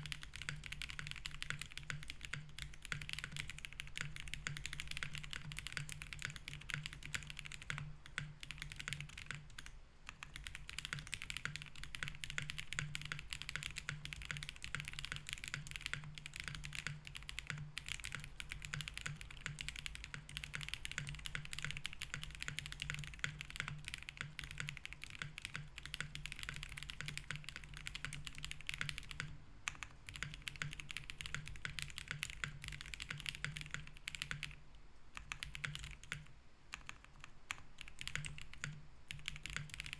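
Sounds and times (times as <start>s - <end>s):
mechanical keyboard typing: 0.0s - 34.6s, 35.2s - 39.9s.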